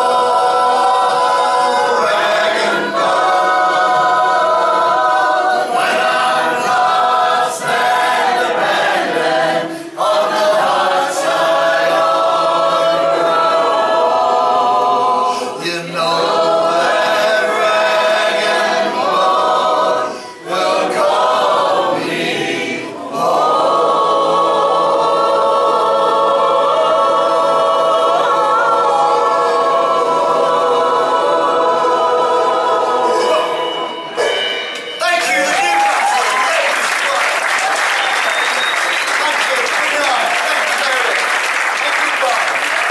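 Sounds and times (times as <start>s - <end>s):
group singing in harmony: 0.0s - 35.4s.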